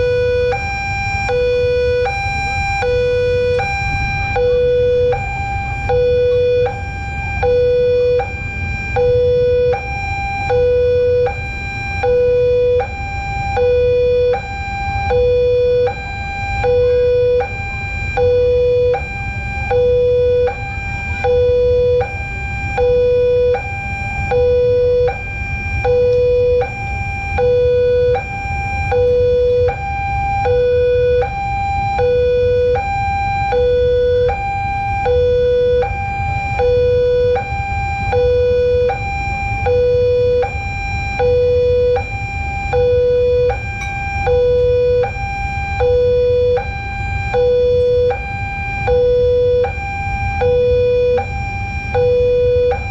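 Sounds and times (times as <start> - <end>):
two-tone level crossing siren: 0.0 - 52.9.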